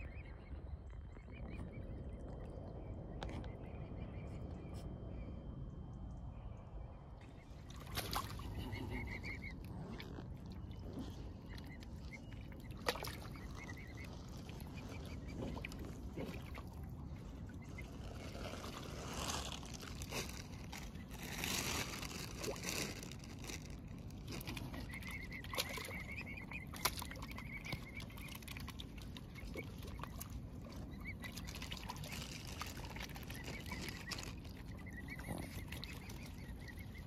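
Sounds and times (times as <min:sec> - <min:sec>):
water sloshing and splashing: 0:07.2 - 0:37.0.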